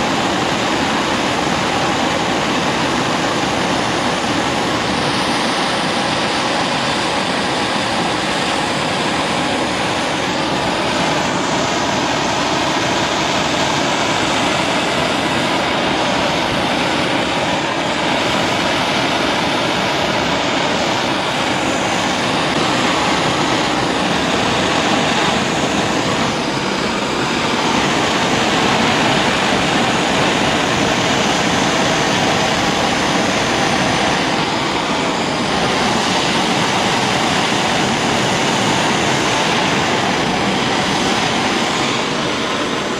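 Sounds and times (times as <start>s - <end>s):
gas torch flame hissing: 0.0s - 42.9s.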